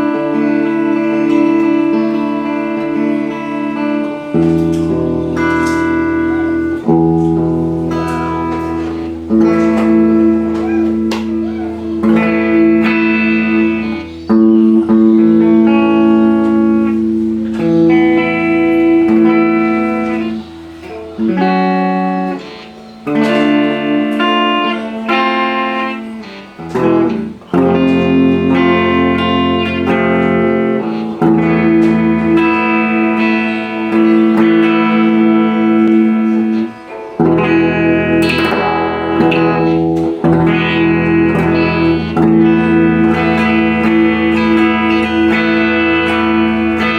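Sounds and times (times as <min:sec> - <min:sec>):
electric guitar playing: 0:00.0 - 0:46.9.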